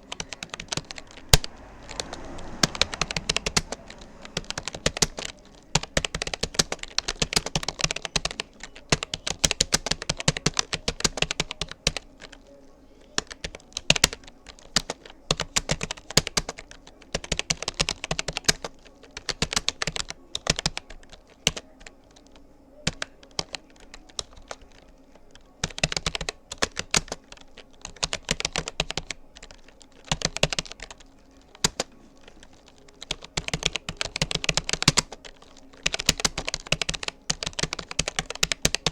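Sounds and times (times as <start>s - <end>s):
keyboard typing clicks: 0.0s - 12.5s, 13.1s - 38.9s
faint steady hum: 0.0s - 38.9s.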